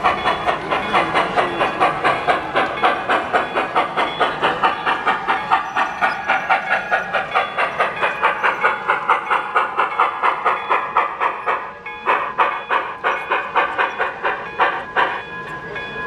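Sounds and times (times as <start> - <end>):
model steam locomotive chuffing: 0.0 - 16.0
steam hiss: 0.0 - 16.0.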